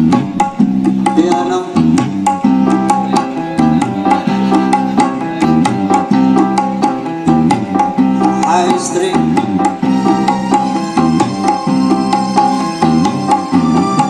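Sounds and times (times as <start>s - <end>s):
bass guitar line: 0.0s - 14.0s
hand drum strikes: 0.0s - 14.0s.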